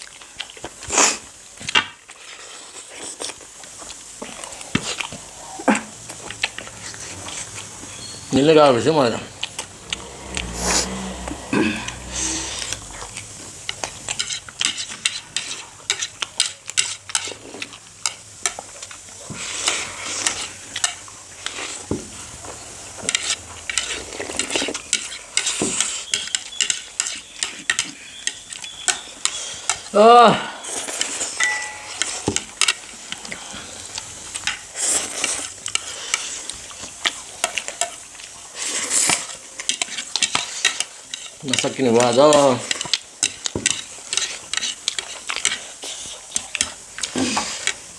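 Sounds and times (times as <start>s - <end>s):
wet slurping and chewing: 0.0s - 29.9s, 32.4s - 47.9s
utensils clicking against bowls: 3.1s - 30.0s, 30.6s - 47.9s.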